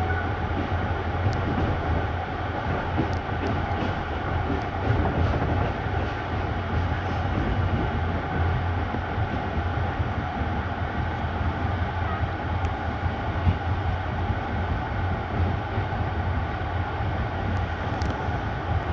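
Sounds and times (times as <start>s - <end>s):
passenger train rumbling: 0.0s - 18.9s.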